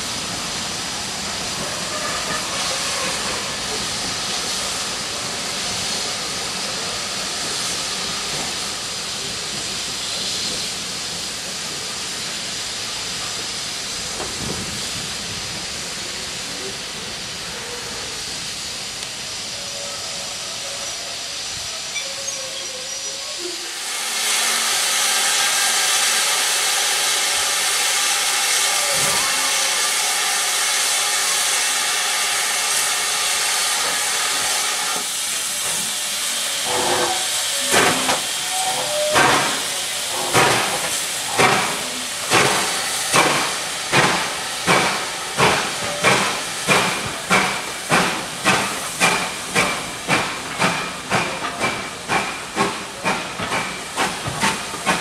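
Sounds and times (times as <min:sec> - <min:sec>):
loud bright steam hiss: 0:00.0 - 0:55.0
steam locomotive hissing: 0:00.0 - 0:55.0
train coaches rolling on rails: 0:00.0 - 0:55.0.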